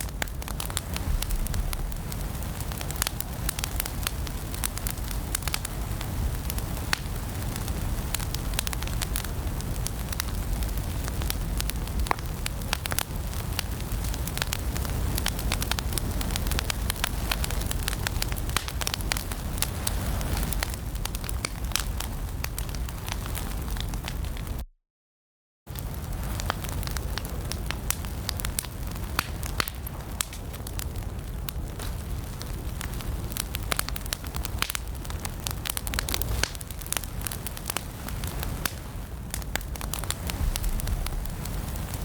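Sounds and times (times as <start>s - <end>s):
pops and snaps of fire: 0.0s - 22.8s, 25.8s - 32.1s, 32.7s - 42.0s
fire crackling: 0.0s - 24.6s, 25.7s - 42.0s.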